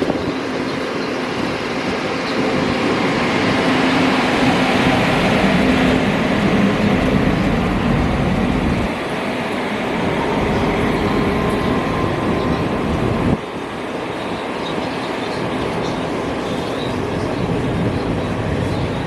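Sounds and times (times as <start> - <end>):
passenger train rumbling on track: 0.0 - 19.0.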